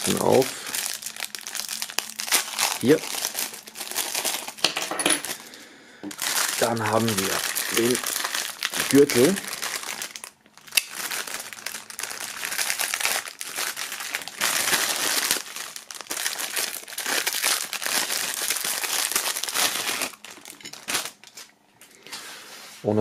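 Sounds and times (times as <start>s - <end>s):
plastic bag crinkling: 0.0s - 22.1s.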